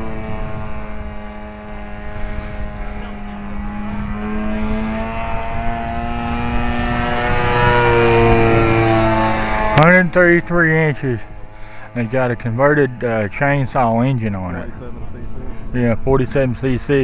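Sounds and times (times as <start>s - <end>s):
model plane engine drone: 0.0s - 17.0s.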